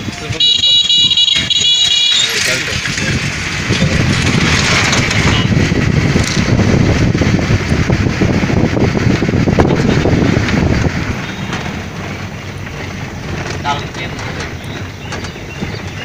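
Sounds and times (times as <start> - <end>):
road and engine rumble: 0.0 - 16.0
wind buffeting microphone: 1.1 - 16.0.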